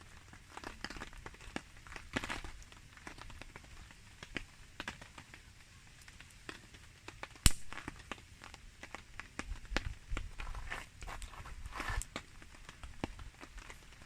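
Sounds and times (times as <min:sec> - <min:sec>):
campfire wood crackling: 0:00.0 - 0:14.0
sharp pops from fire: 0:00.0 - 0:14.0.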